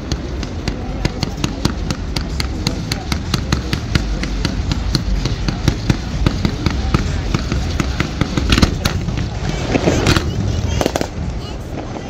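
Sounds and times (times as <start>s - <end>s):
fireworks cracking: 0.0s - 12.0s
low rumble of bursts: 0.0s - 12.0s.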